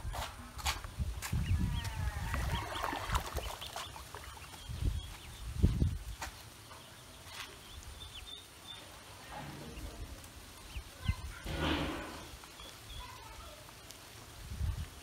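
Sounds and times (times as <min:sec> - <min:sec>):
ducklings peeping: 0:01.0 - 0:15.0.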